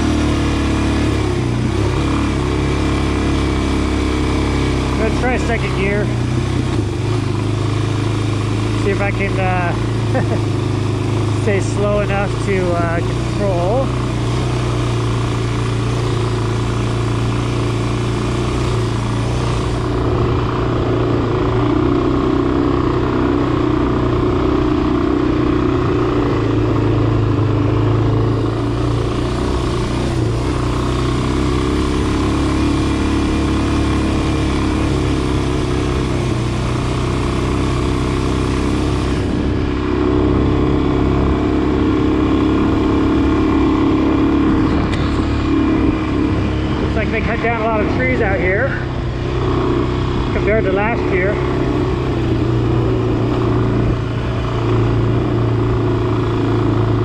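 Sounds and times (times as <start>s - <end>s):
dirt bike engine at low revs: 0.0s - 57.0s.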